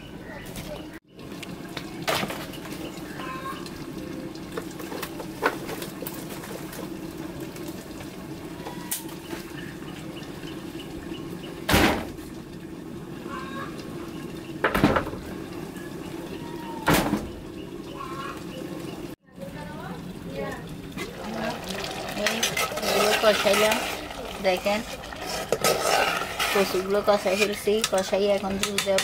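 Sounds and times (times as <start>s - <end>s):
food sizzling in pot: 1.2s - 16.9s, 18.0s - 29.0s.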